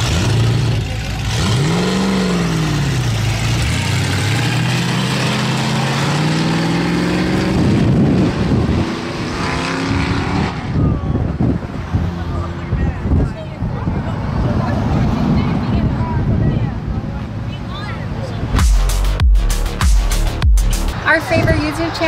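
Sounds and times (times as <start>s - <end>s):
car engines accelerating: 0.0s - 22.0s.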